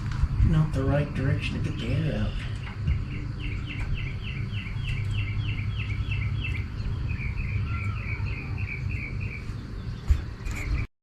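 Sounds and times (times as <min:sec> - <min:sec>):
steady low hum: 0:00.0 - 0:10.9
songbird singing: 0:00.5 - 0:10.9.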